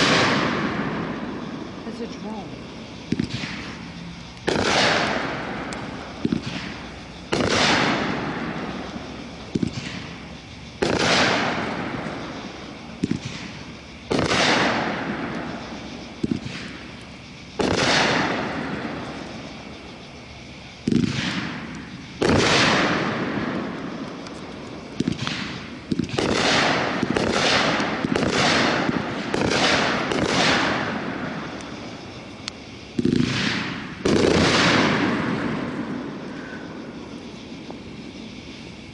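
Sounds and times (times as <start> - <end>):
firework shots with burst noise: 0.0 - 38.9.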